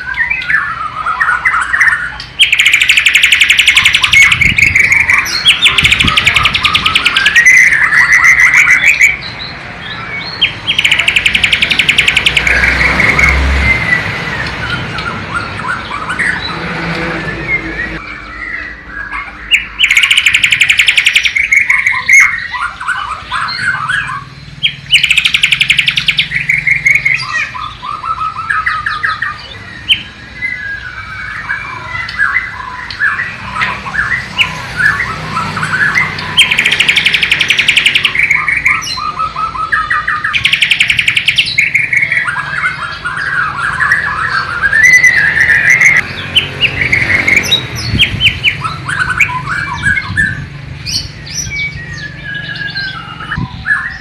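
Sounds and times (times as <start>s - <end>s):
loud fast bird trills: 0.0s - 16.6s, 17.5s - 54.0s
songbird whistled song: 0.0s - 54.0s.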